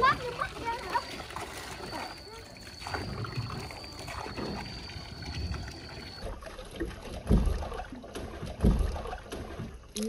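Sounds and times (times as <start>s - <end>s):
hose water splashing into bathtub: 0.0s - 10.0s
water sloshing in tub: 0.0s - 10.0s.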